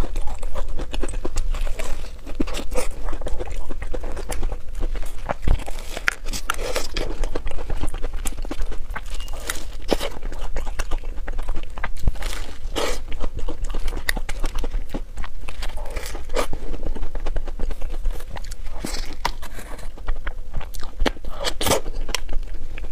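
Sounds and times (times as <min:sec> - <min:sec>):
chewing crisp pastry: 0:00.0 - 0:22.9
steady low hum: 0:00.0 - 0:22.9.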